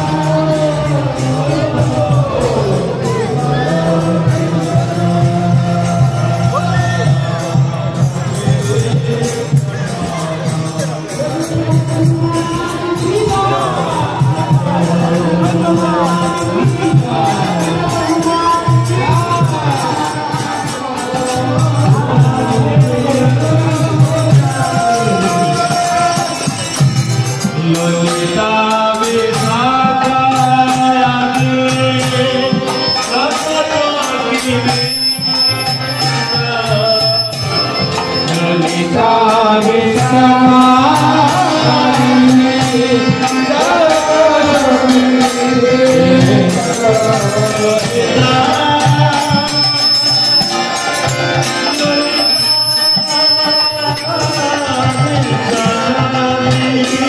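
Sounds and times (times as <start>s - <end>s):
hand drums: 0.0s - 57.0s
harmonium: 0.0s - 57.0s
jingling hand percussion: 0.0s - 57.0s.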